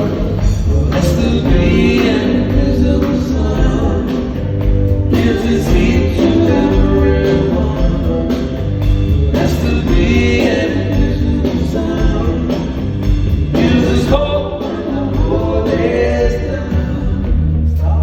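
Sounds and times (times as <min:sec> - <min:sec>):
person singing: 0:00.0 - 0:12.8, 0:13.5 - 0:18.0
live rock band playing: 0:00.0 - 0:18.0.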